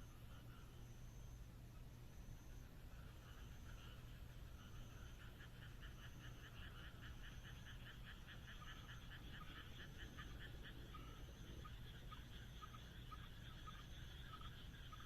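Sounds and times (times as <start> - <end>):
faint low hum: 0.0 - 15.0
frogs croaking: 0.0 - 15.0.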